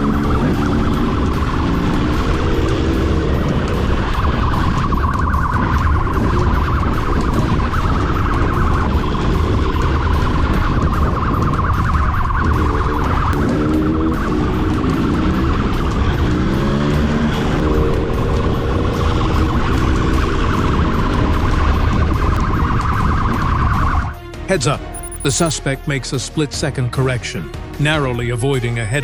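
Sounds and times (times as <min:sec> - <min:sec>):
motorcycle engine rumble: 0:00.0 - 0:24.0
motorcycle siren warbling: 0:00.0 - 0:24.2, 0:24.8 - 0:25.6
wind noise: 0:00.0 - 0:24.2.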